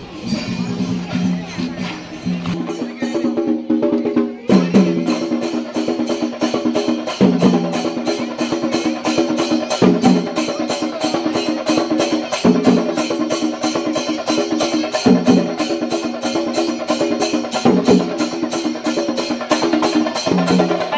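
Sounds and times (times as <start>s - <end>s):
fast drum strokes: 0.0s - 20.9s.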